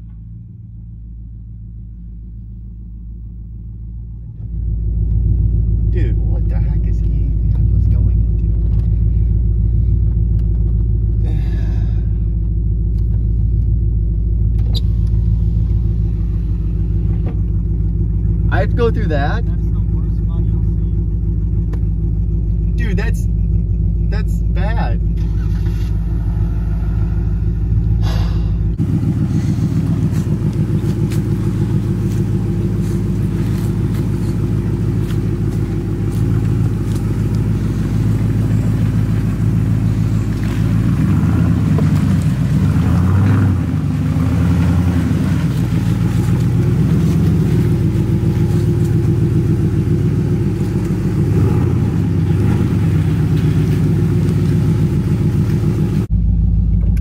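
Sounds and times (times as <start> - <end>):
pickup engine rumbling: 0.0 - 57.0.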